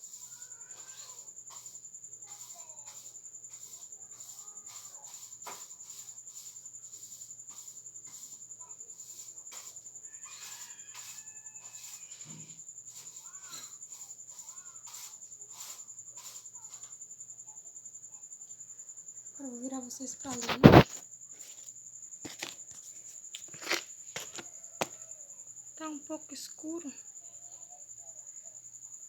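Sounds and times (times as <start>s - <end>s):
faint distant insect calls: 0.0s - 29.0s
insects trilling and chirping: 0.0s - 29.0s.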